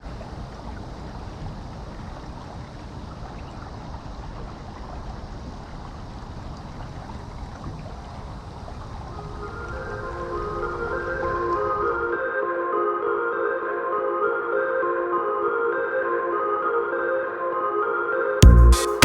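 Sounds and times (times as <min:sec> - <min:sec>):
water noise: 0:00.0 - 0:17.1.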